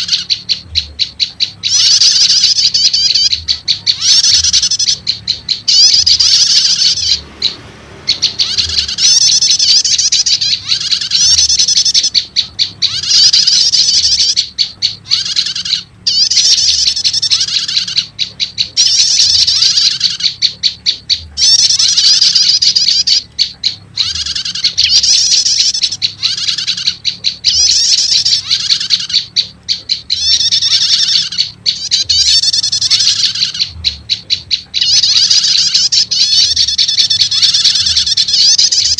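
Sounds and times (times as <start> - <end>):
bird high-pitched trills: 0.0 - 38.9.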